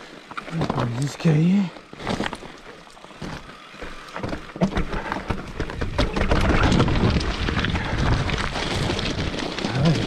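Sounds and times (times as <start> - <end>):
bike rattling over rough trail: 0.0 - 10.0.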